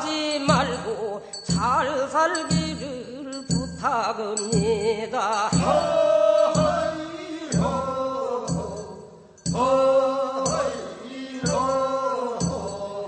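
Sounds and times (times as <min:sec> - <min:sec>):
lead singer singing: 0:00.0 - 0:13.0
struck beat: 0:00.0 - 0:13.0
voices singing refrain: 0:00.0 - 0:13.0.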